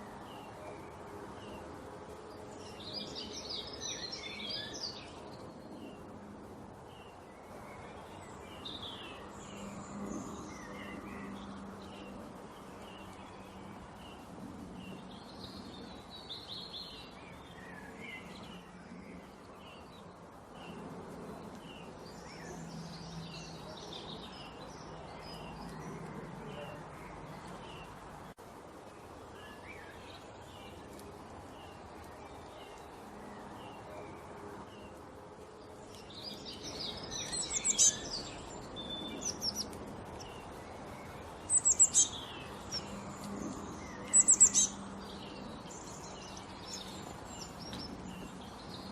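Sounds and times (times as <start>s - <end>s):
small birds chirping: 0.0s - 48.9s
steady background hiss: 0.0s - 48.9s.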